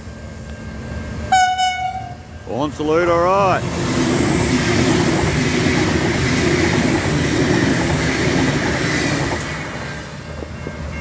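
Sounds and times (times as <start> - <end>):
train passing close by: 0.0 - 11.0.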